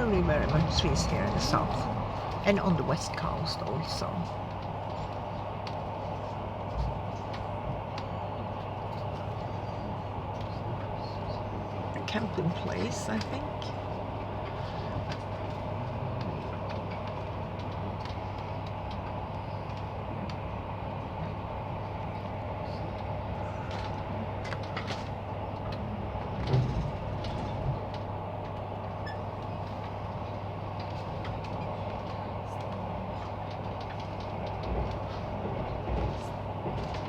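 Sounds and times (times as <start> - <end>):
train interior hum: 0.0 - 37.0.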